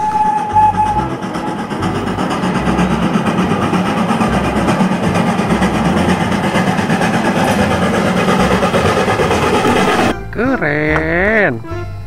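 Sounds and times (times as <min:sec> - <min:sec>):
steam locomotive running: 0:00.0 - 0:10.2.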